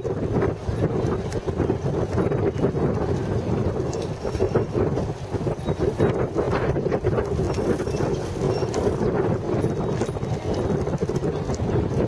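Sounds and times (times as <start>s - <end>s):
bicycle clicks and rattles: 0.0s - 12.0s
wind buffeting microphone: 0.0s - 12.0s.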